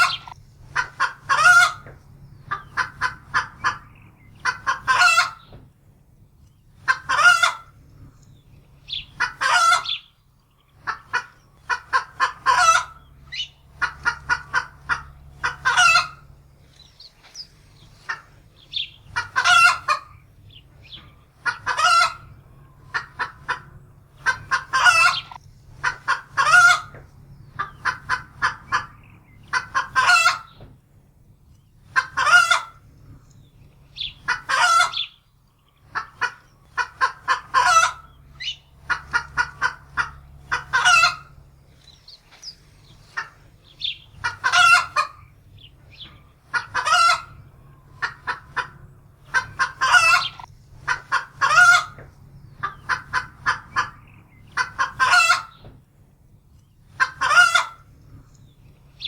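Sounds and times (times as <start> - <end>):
hen cackling and squawking: 0.0 - 5.6, 6.7 - 30.7, 31.8 - 55.7, 56.8 - 59.0.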